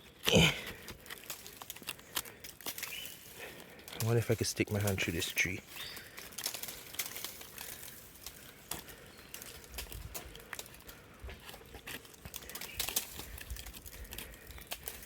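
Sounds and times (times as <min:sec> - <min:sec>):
dry plant debris crackling: 0:00.0 - 0:15.0.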